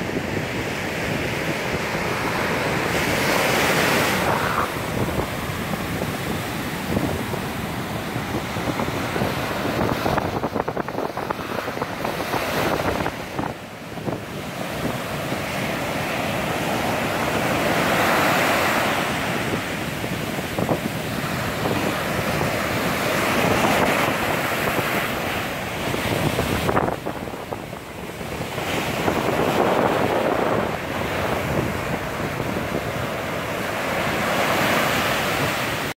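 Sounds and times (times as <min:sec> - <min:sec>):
sea surf breaking: 0:00.0 - 0:36.0.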